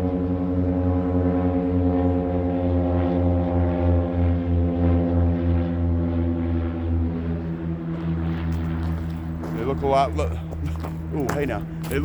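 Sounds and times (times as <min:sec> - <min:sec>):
airplane engine drone overhead: 0:00.0 - 0:12.0.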